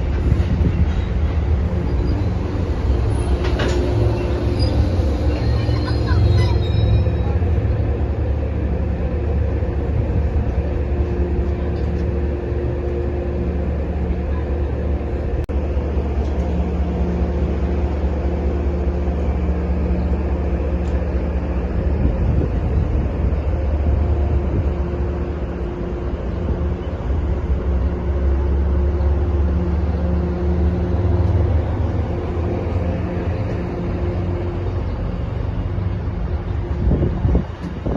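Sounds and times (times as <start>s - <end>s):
locomotive engine humming: 0.0s - 37.9s.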